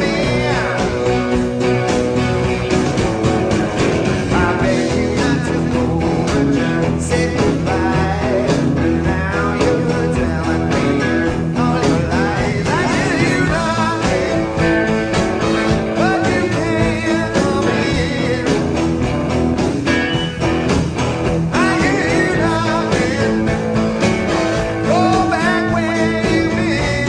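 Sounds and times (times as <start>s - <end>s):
electric guitar slides: 0.0s - 27.0s
rock and roll music: 0.0s - 27.0s.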